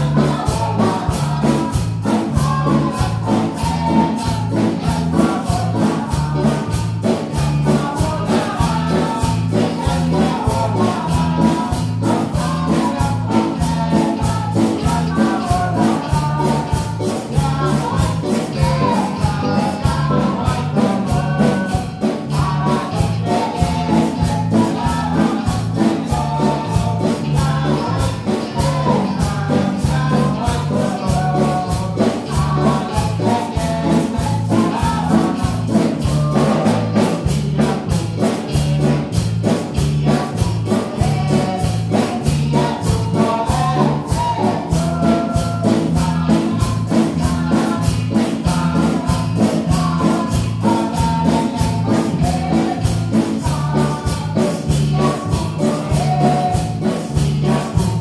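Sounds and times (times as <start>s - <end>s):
bass guitar: 0.0s - 58.0s
electric guitar: 0.0s - 58.0s
keyboard: 0.0s - 58.0s
metal shaker rhythm: 0.0s - 58.0s
people singing into microphones: 0.0s - 58.0s.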